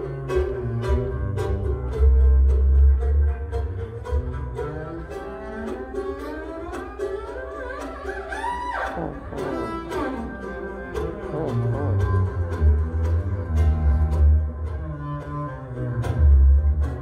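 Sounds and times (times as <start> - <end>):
bowed double bass: 0.0 - 17.0
mandolin picking notes: 0.0 - 17.0.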